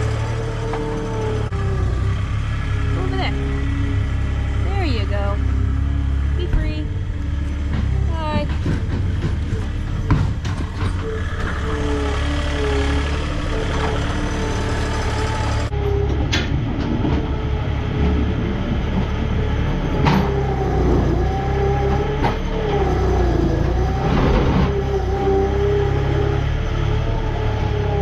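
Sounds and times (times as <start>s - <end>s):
tractor engine rumble: 0.0s - 28.0s.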